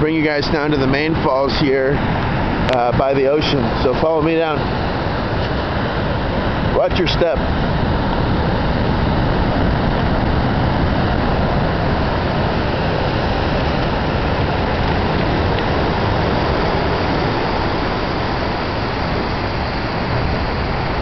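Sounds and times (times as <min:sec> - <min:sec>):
surf breaking: 0:00.0 - 0:21.0
waterfall rushing: 0:00.0 - 0:21.0.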